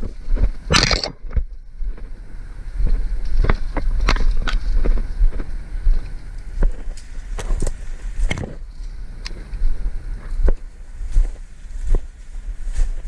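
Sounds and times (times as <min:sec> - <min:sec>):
low rumble of wind on microphone: 0:00.0 - 0:13.0.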